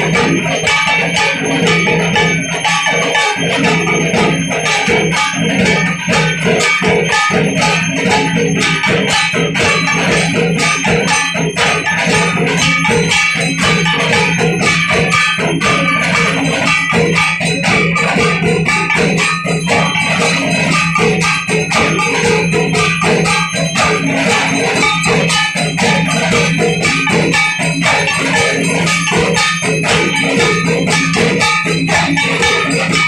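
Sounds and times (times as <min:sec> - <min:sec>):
cymbals ringing: 0:00.0 - 0:33.0
drums: 0:00.0 - 0:33.0
temple bells ringing: 0:00.0 - 0:33.0.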